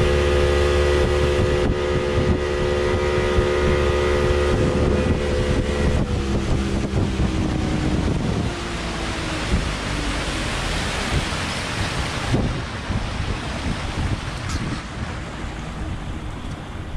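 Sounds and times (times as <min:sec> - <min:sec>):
outboard motor running: 0:00.0 - 0:16.9
water rushing past hull: 0:00.0 - 0:16.9
wind buffeting microphone: 0:00.0 - 0:16.9.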